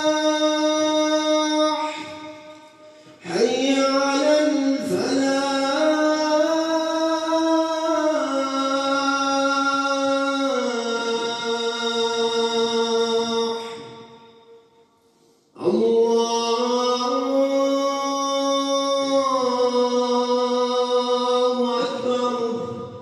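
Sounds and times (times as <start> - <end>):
man chanting call to prayer: 0.0 - 14.6, 15.6 - 23.0.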